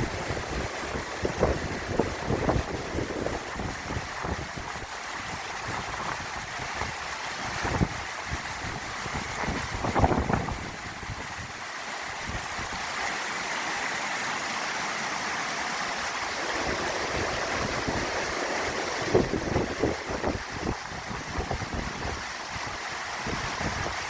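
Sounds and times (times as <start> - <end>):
wind buffeting microphone: 0.0 - 11.6, 16.3 - 24.0
stream rushing: 0.0 - 24.0.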